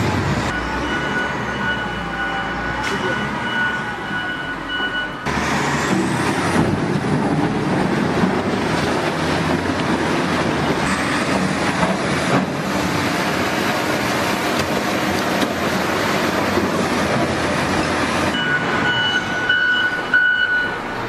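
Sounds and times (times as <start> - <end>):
heavy machinery engine running: 0.0 - 21.0.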